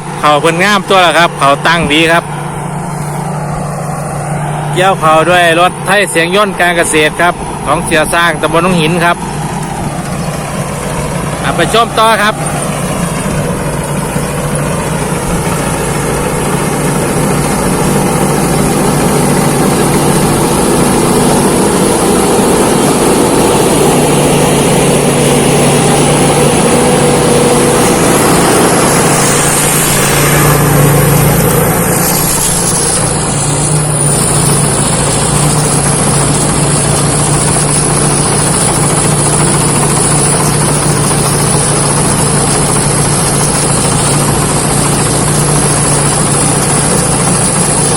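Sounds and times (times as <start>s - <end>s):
combine harvester engine running: 0.0s - 47.9s.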